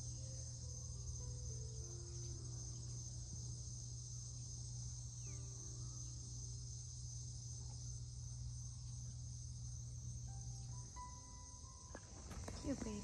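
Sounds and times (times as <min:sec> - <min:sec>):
crickets chirping: 0:00.0 - 0:13.0
low steady hum: 0:00.0 - 0:13.0.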